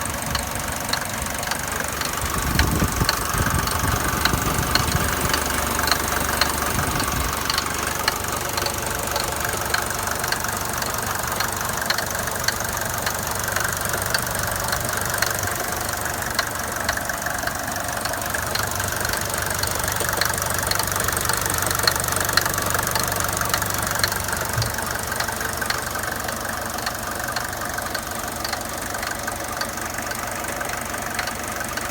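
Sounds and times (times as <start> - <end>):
diesel engine knocking: 0.0 - 31.9.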